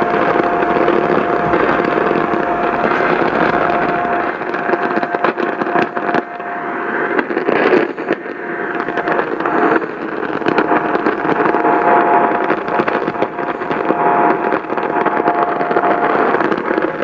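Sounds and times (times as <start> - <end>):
faint steady tones: 0.0 - 17.0
radio static: 0.0 - 17.0.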